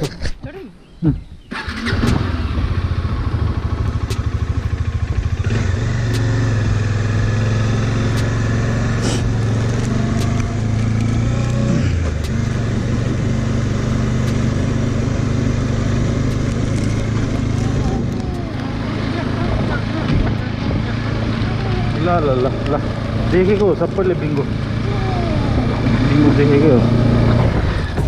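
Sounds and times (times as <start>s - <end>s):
motorcycle engine: 1.5s - 28.0s.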